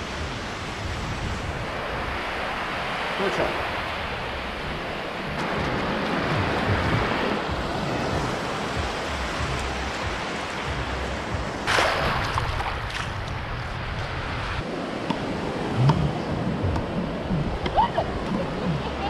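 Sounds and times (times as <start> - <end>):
surf washing over sand: 0.0 - 19.0
wave breaking: 0.0 - 19.0.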